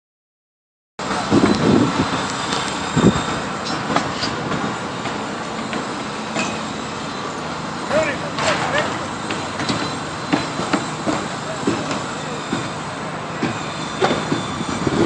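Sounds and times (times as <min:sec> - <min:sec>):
machinery rumble: 0:01.0 - 0:15.0.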